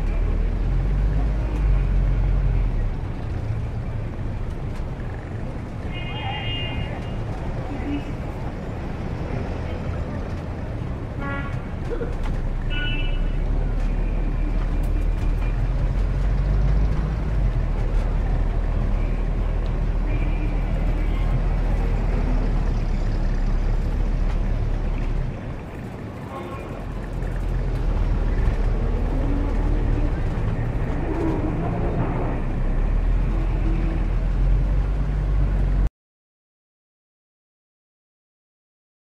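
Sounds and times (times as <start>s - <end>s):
street traffic rumble: 0.0s - 35.9s.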